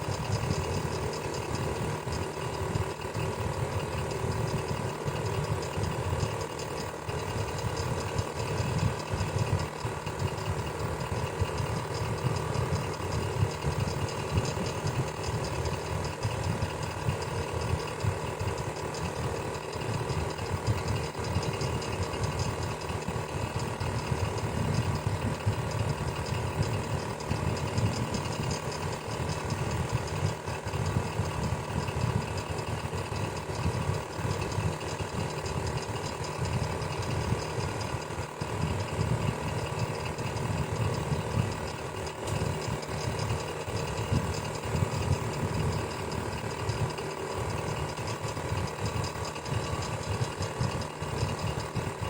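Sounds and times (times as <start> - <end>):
electric fan running: 0.0 - 52.0.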